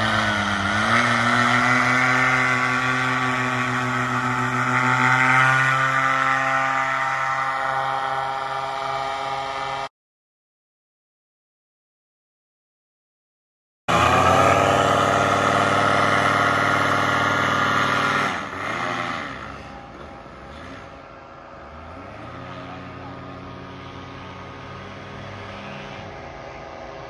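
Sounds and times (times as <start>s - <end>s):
engine and propeller running: 0.0s - 9.9s, 13.9s - 27.0s.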